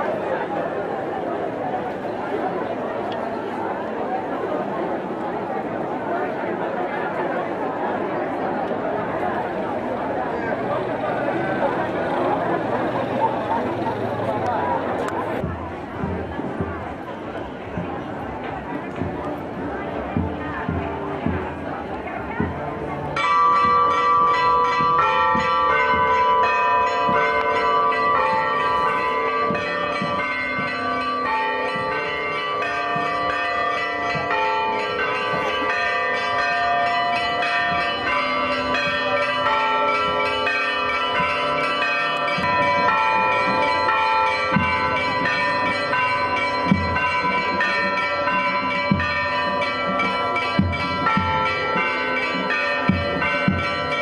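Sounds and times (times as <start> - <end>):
church bells ringing: 0.0 - 17.1, 17.7 - 54.0.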